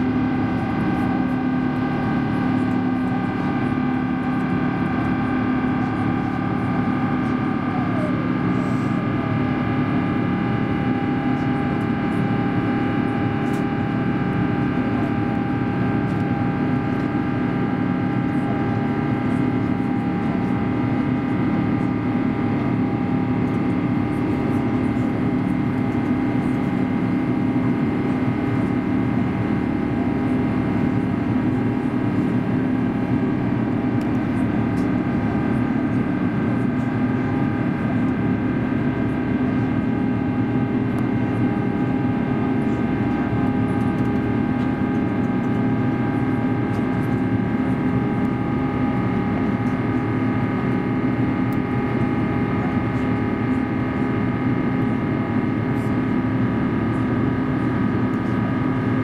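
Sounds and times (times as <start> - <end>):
airflow rushing in aircraft cabin: 0.0 - 59.0
jet engine noise: 0.0 - 59.0.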